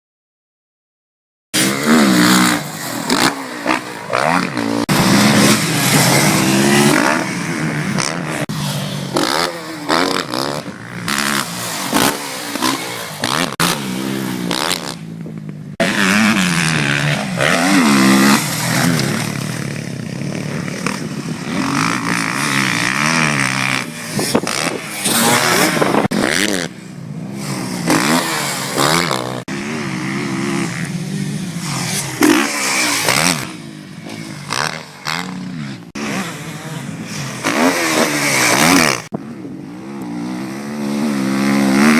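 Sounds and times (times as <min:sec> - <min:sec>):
motocross bike engine revving: 0:01.6 - 0:41.9.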